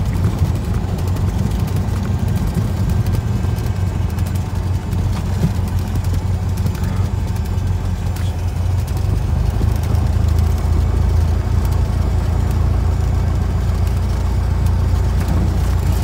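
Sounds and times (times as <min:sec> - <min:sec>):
airplane engine drone: 0:00.0 - 0:16.0.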